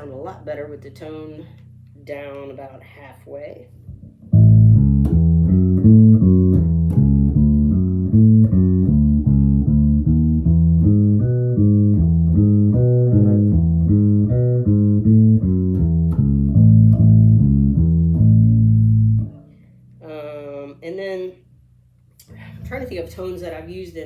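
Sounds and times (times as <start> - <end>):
plucked bass guitar notes: 0.0 - 24.0.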